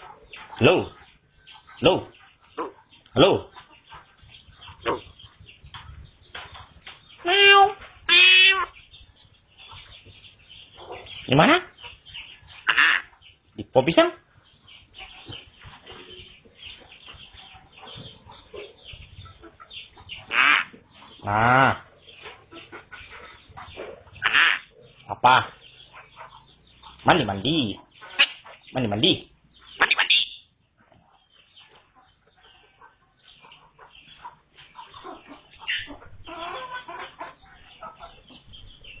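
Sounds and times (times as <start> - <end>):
birds chirping and clucking: 0.0 - 39.0.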